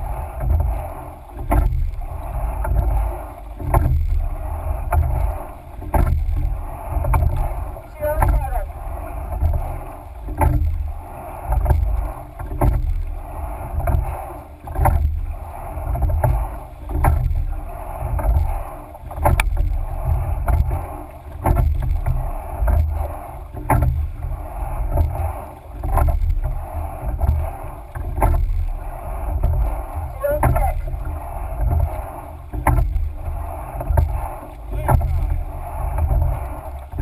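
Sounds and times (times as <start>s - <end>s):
low rumble: 0.0s - 37.0s
oars knocking in oarlocks: 0.0s - 37.0s
water rushing along hull: 0.0s - 37.0s.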